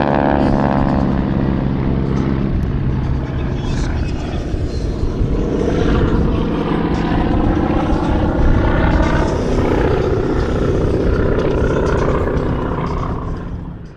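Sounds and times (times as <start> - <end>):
propeller aircraft engines droning: 0.0 - 13.9.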